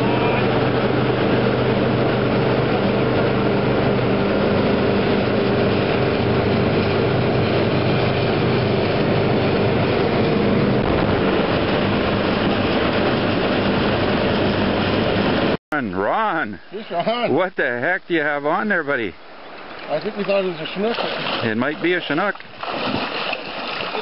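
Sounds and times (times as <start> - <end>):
rushing water: 0.0 - 15.6, 16.9 - 24.0
boat engine drone: 0.0 - 24.0.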